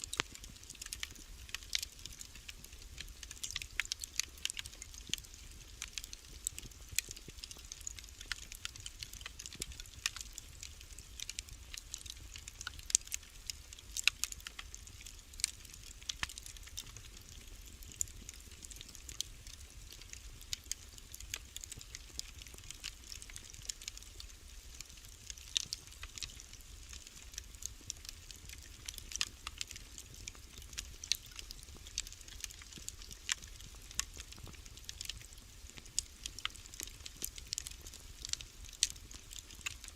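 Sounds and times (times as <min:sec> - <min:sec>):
low rumble of fire: 0:00.0 - 0:39.9
wood fire crackling and popping: 0:00.0 - 0:39.9.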